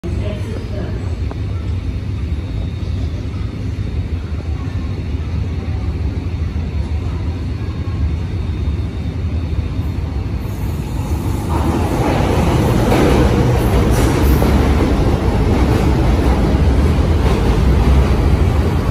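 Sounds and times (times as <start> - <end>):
metro platform rumble: 0.0 - 18.9
train approaching: 0.0 - 18.9.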